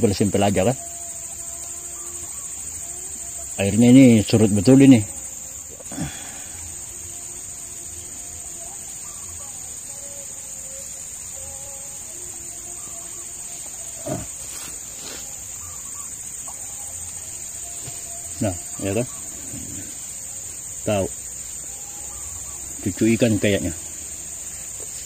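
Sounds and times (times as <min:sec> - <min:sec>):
faint wavering tones: 0:00.0 - 0:25.0
high-pitched insect chorus: 0:00.0 - 0:25.0.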